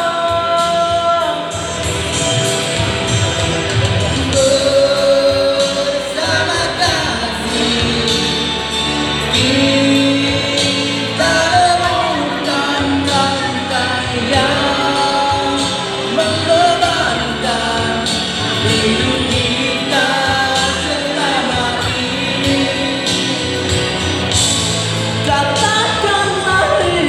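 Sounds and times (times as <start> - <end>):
man singing into microphone: 0.0 - 2.2, 4.1 - 27.0
instrumental backing music: 0.0 - 27.0.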